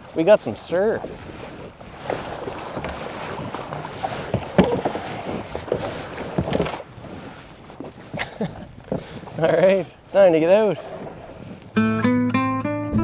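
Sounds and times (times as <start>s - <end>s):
steady wash of water: 0.0s - 11.8s
water splashing around boat: 0.0s - 12.0s.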